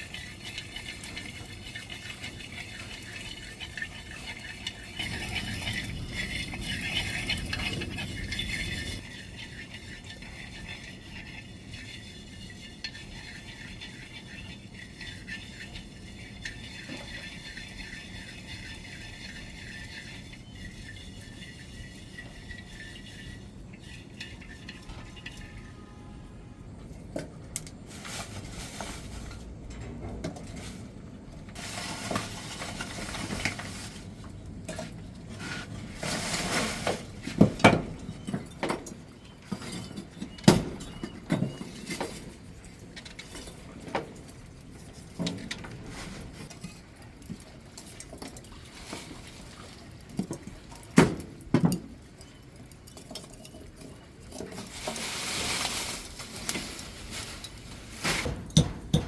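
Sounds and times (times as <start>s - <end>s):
cooking pots and utensils clinking: 0.0s - 26.3s, 31.6s - 59.0s.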